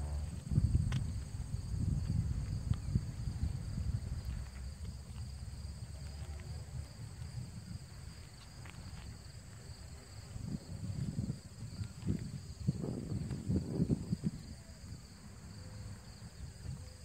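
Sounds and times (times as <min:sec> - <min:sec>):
insects droning: 0:00.0 - 0:17.0
wind buffeting the microphone: 0:00.0 - 0:17.0.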